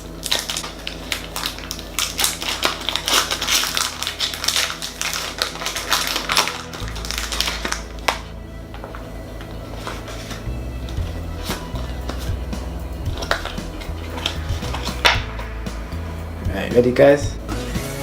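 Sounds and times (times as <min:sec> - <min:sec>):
foil wrapper crinkling and tearing: 0:00.0 - 0:15.6
background music: 0:00.0 - 0:18.0.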